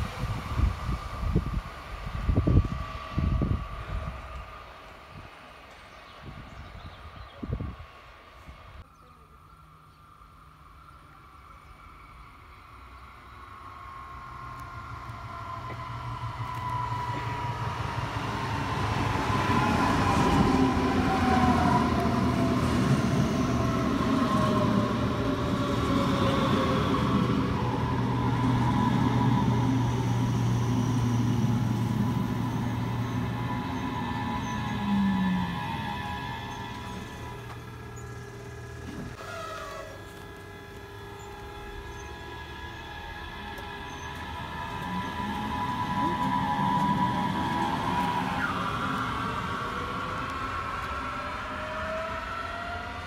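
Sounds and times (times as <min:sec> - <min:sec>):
electric train arriving: 0:00.0 - 0:06.3, 0:09.5 - 0:53.0
low hum of standing train: 0:00.0 - 0:53.0.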